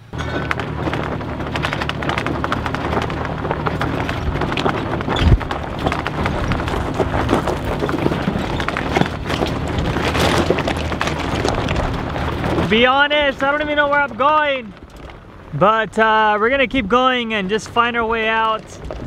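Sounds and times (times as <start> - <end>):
stones rattling under tyres: 0.0 - 19.0
truck engine pulling uphill: 0.0 - 19.0.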